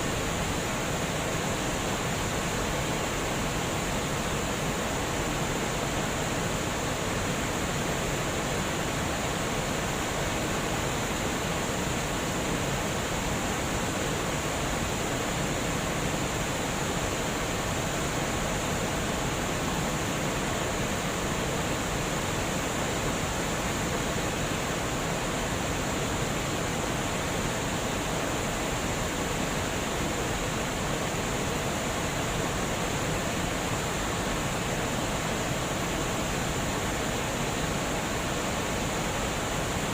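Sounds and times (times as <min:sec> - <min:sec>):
water rushing over a spillway: 0:00.0 - 0:39.9.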